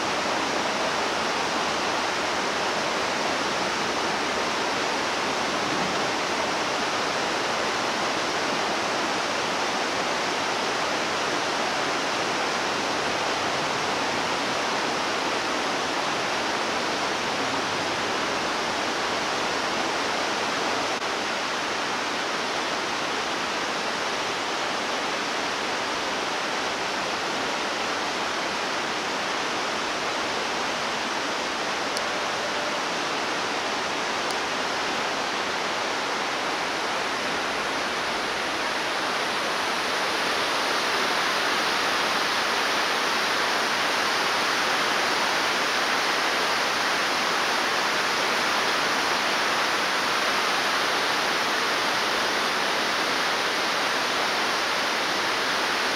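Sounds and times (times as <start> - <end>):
mountain river rushing: 0.0 - 55.9.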